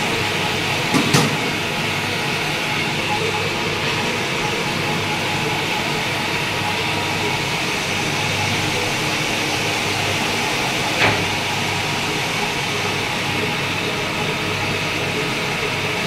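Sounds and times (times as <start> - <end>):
lathe humming and whining: 0.0 - 16.0.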